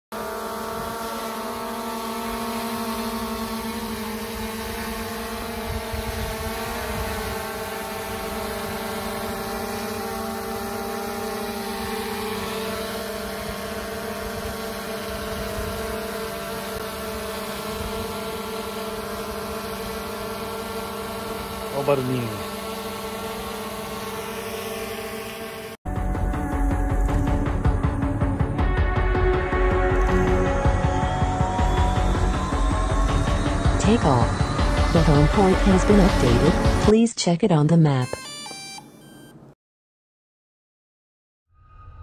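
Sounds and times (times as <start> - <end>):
drone propellers buzzing: 0.1 - 37.0.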